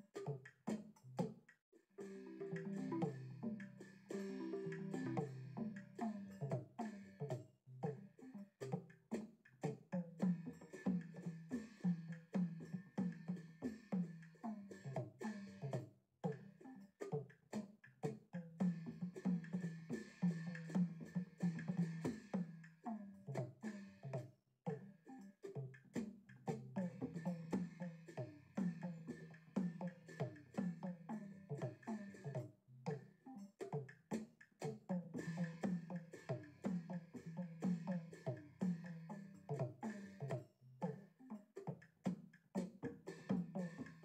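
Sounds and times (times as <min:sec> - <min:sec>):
tuned drum circle music: 0:00.0 - 0:44.0.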